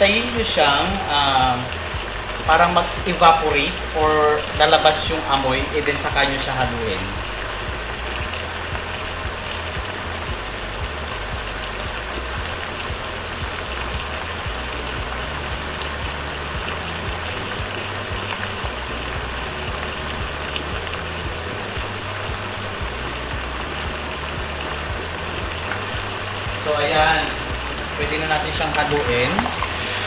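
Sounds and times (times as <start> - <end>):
background music with bass line: 0.0 - 30.0
pork sizzling in a pot: 0.0 - 30.0.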